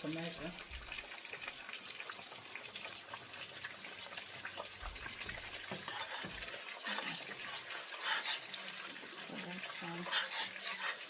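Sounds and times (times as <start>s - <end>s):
crackles and pops of frying: 0.0s - 11.0s
fish sizzling in oil: 0.0s - 11.0s.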